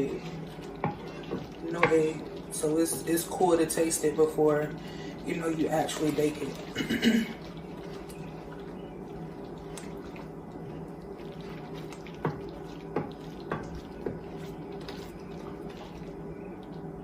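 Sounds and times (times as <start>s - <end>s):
liquid plops: 0.0s - 17.0s
steady low hum: 0.0s - 17.0s.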